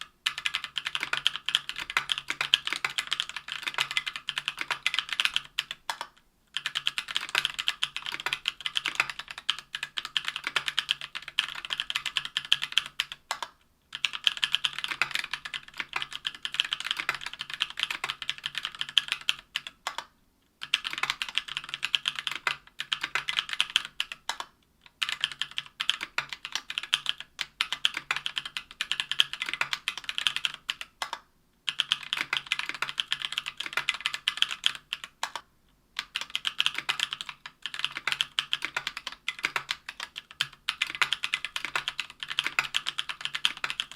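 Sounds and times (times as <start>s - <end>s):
mechanical keyboard typing: 0.2s - 43.9s.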